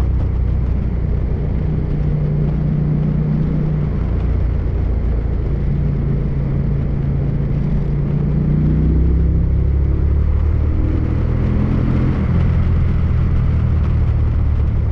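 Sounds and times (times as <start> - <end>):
motorcycle engine running: 0.0 - 14.9
wind rushing over microphone: 0.0 - 14.9.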